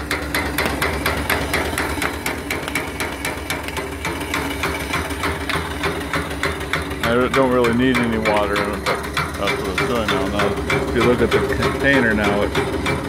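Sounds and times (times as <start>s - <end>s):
feed pump knocking: 0.0s - 13.0s
steam engine running: 0.0s - 13.0s.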